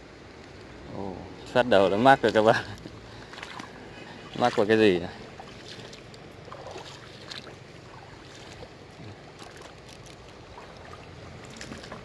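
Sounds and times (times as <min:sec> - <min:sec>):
stream water running over stones: 0:01.5 - 0:12.0.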